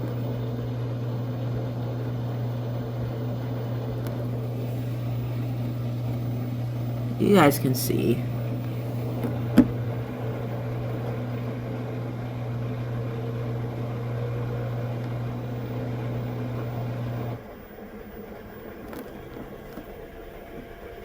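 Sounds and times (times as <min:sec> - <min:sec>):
washing machine electrical hum: 0:00.0 - 0:21.0.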